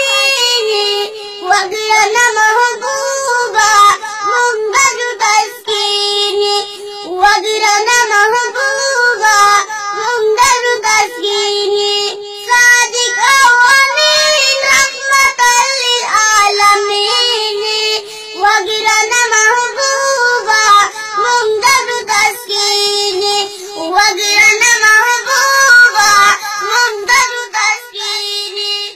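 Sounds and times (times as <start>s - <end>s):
small child chanting: 0.0s - 28.9s.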